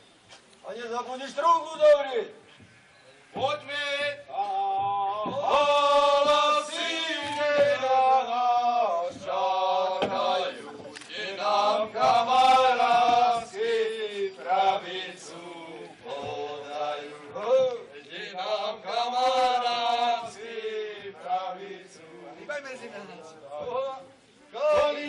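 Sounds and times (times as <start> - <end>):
men singing folk song together: 3.4 - 25.0.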